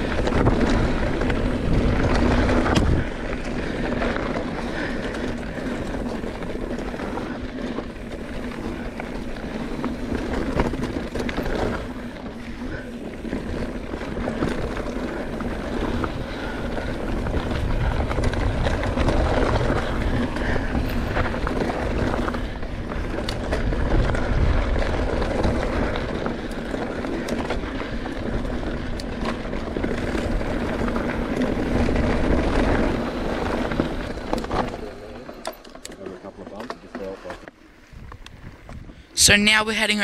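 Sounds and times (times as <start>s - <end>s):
wind rushing over microphone: 0.0s - 34.4s, 37.8s - 39.4s
tyres rumbling on dirt: 0.0s - 37.7s
bike rattling and clicking: 0.0s - 40.0s.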